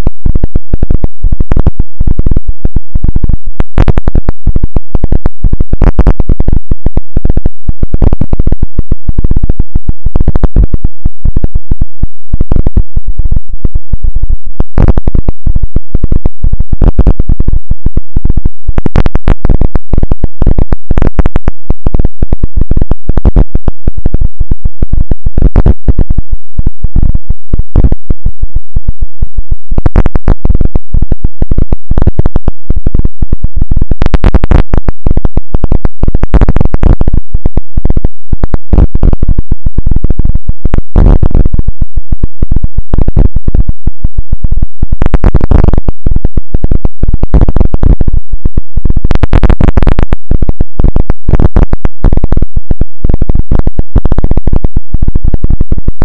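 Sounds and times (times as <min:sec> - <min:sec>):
distorted electronic crackling noise: 0:00.0 - 0:56.0.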